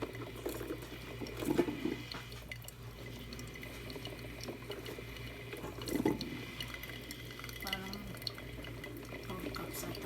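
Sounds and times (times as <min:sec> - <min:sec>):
coffee maker water gurgling: 0:00.0 - 0:10.0
low steady hum: 0:00.0 - 0:10.0.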